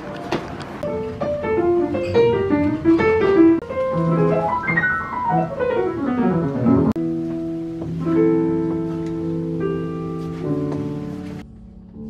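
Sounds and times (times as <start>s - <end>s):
jazz piano playing: 0.0s - 12.0s.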